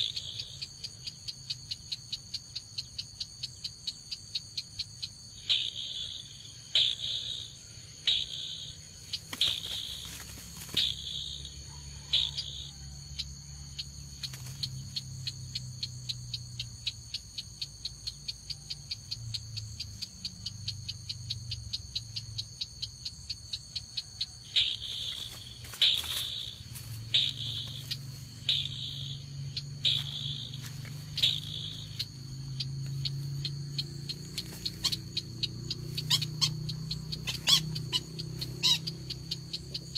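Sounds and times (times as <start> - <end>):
bird call with ticking notes: 0.0 - 39.9
high insect drone: 0.0 - 39.9.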